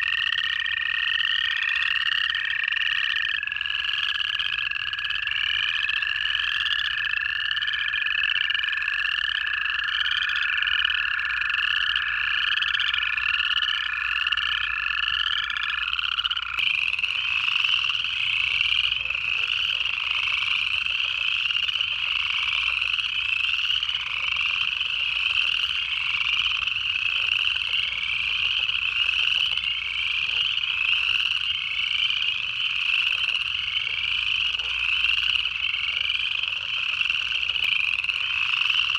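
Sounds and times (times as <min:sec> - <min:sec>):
chorus of frogs trilling: 0:00.0 - 0:38.9
toad trills: 0:00.0 - 0:38.9.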